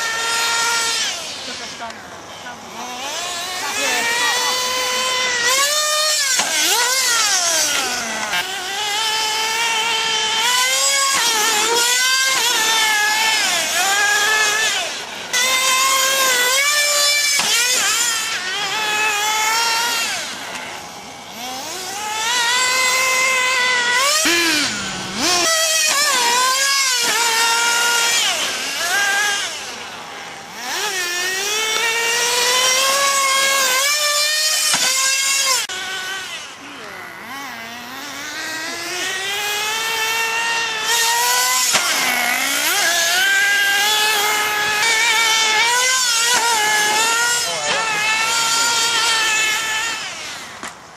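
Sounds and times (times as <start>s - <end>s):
nitro engines high-pitched whine: 0.0s - 50.9s.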